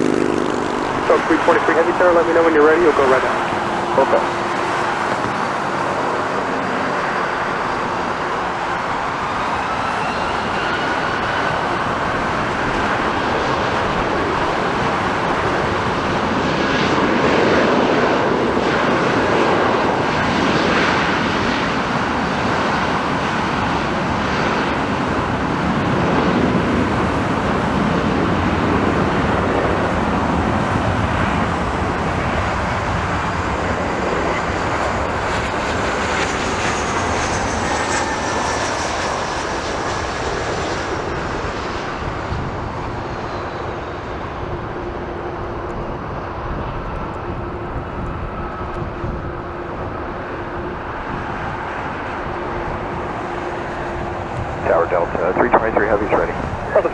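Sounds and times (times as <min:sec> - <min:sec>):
jet engines at takeoff power: 0:00.0 - 0:56.9.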